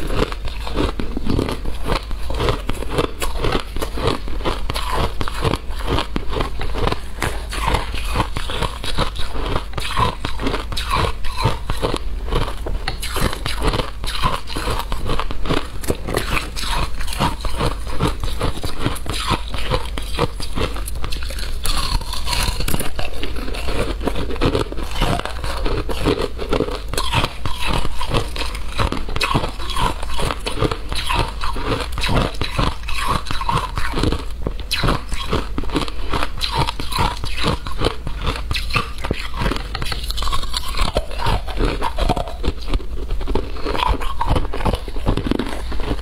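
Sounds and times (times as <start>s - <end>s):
ice being chewed: 0.0s - 46.0s.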